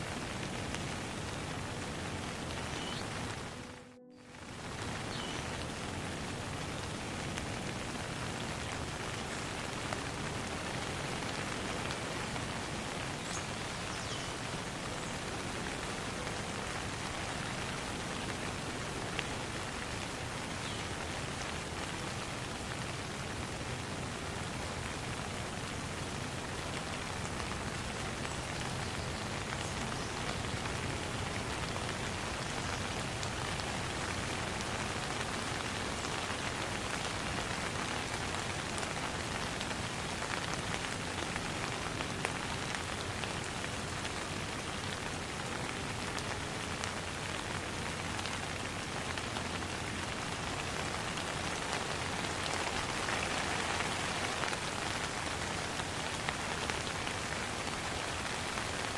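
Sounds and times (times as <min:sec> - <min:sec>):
rain falling on a pond: 0:00.0 - 0:58.9.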